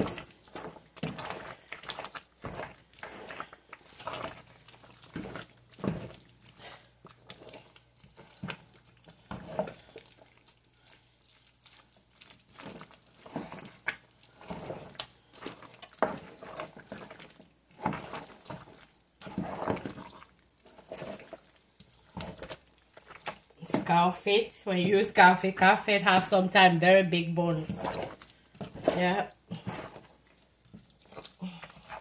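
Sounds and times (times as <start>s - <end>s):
spoon stirring thick sauce in pot: 0.0s - 32.0s.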